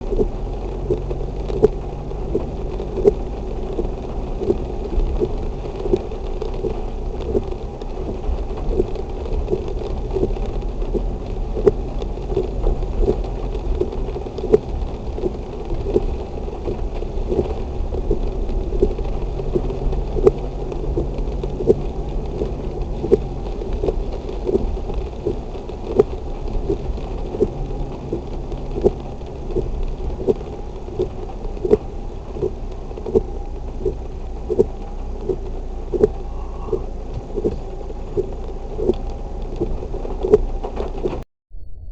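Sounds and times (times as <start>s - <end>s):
heavy rain downpour: 0.0s - 41.2s
raindrops tapping a surface: 0.0s - 41.2s
low rumble: 0.0s - 41.9s.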